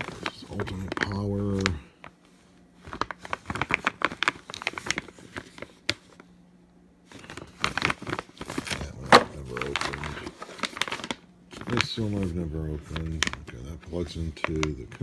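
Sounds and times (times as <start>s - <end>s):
plastic bags crinkling: 0.0s - 6.3s, 7.0s - 15.0s.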